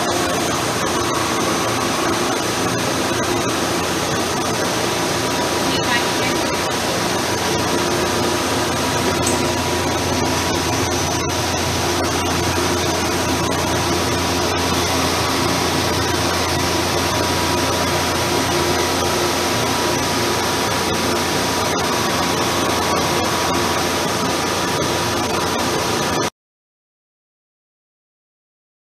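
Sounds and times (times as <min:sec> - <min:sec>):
machinery hiss and hum: 0:00.0 - 0:26.3.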